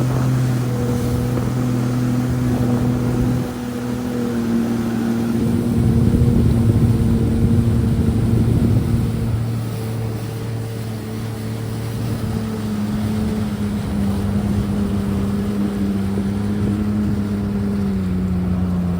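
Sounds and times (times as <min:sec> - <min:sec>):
jet ski engine running: 0:00.0 - 0:18.9.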